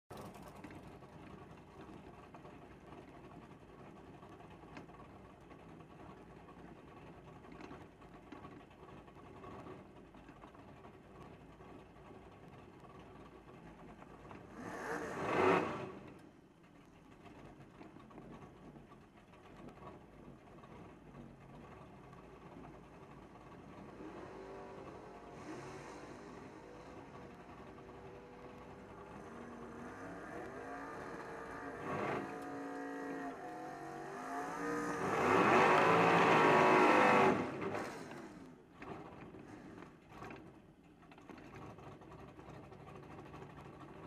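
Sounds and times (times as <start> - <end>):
car engine idling with clatter: 0.1 - 44.0.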